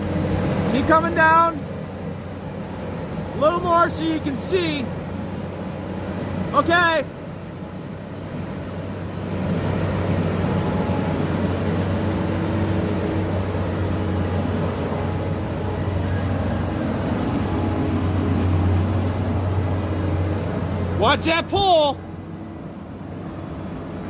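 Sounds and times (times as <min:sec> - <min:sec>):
skid steer engine running: 0:00.0 - 0:24.0.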